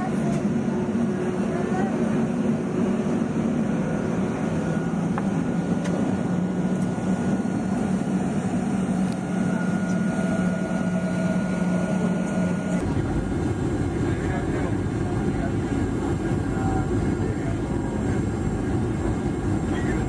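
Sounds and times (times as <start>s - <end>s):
jet airliner cabin noise: 0.0s - 20.0s.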